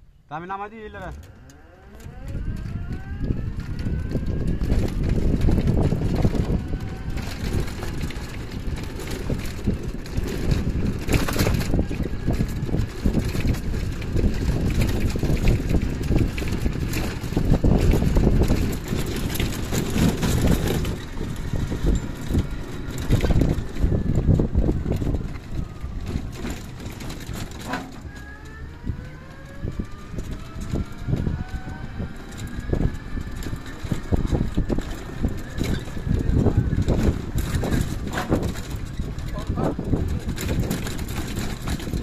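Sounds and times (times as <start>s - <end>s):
wheels and body rattling: 0.0s - 42.0s
wind on microphone: 1.9s - 42.0s.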